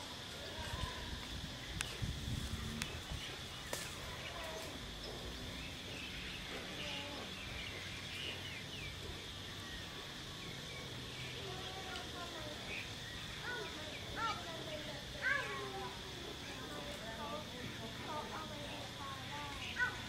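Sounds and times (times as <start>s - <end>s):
steady high hiss: 0.0s - 20.0s.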